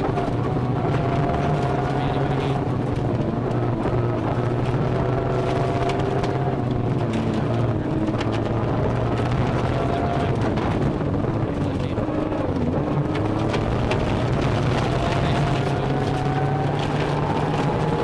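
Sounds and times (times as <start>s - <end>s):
car engine working hard: 0.0s - 18.0s
tyres roaring on dirt road: 0.0s - 18.0s.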